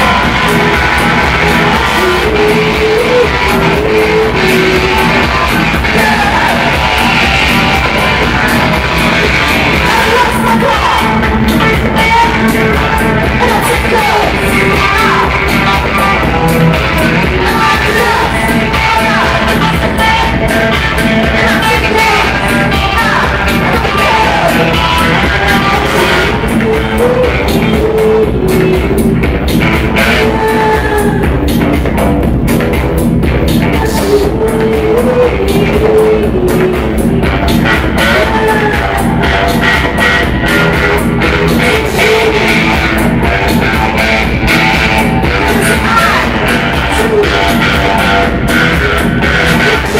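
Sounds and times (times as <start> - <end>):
drums keeping a steady beat: 0.0 - 49.9
electric bass: 0.0 - 49.9
electric guitar: 0.0 - 49.9
woman singing lead: 0.0 - 49.9.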